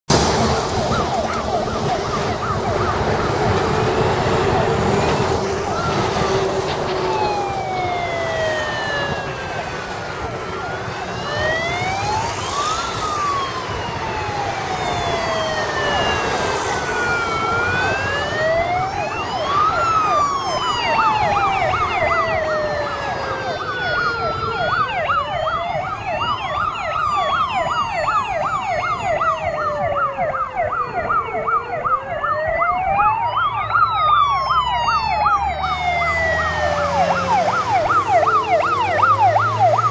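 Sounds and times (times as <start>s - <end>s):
siren fast yelp: 0.1s - 39.9s
siren wailing: 0.1s - 39.9s.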